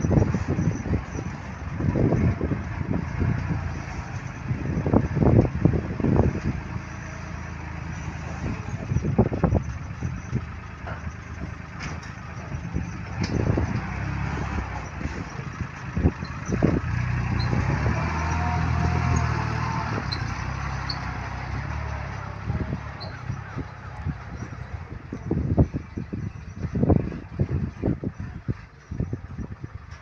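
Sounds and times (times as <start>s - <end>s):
tractor diesel engine: 0.0s - 30.0s.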